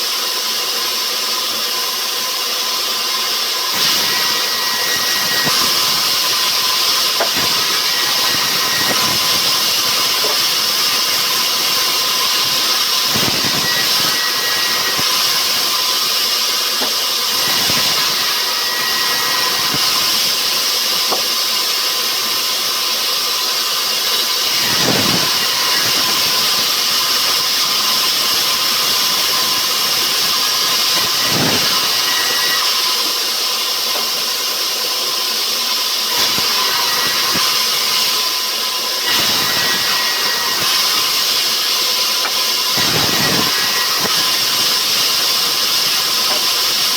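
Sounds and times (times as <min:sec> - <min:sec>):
sawmill saw hissing and whining: 0:00.0 - 0:46.9.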